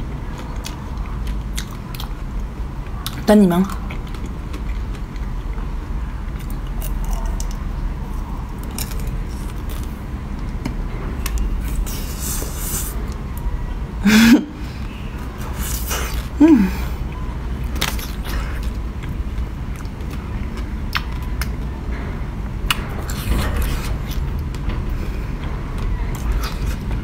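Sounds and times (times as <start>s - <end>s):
steady low hum: 0.0s - 27.0s
biting and chewing ice cream: 0.2s - 13.5s, 14.8s - 21.8s, 22.6s - 27.0s.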